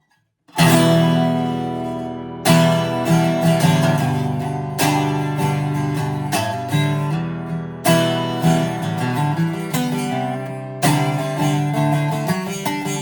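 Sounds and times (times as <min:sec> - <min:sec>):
acoustic guitar strumming: 0:00.5 - 0:13.0.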